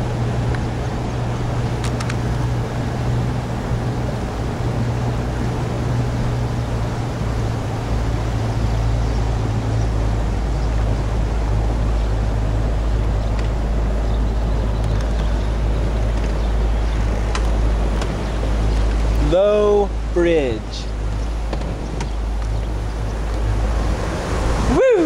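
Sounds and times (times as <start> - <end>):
boat motor droning: 0.0 - 25.0
water rushing: 0.0 - 25.0
wind: 0.0 - 25.0.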